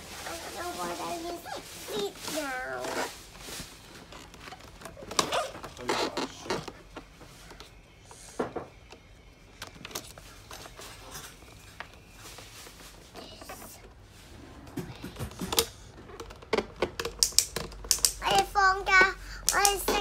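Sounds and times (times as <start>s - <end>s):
plastic straps rustling and clicking: 0.0s - 14.0s, 15.1s - 20.0s.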